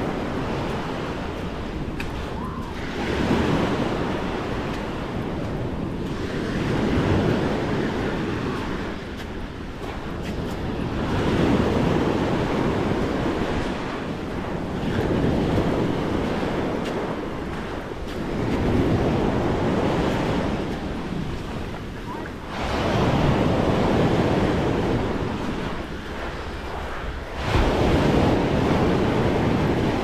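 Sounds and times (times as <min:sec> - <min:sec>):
small waves breaking on shore: 0:00.0 - 0:30.0
wind buffeting microphone: 0:00.0 - 0:30.0.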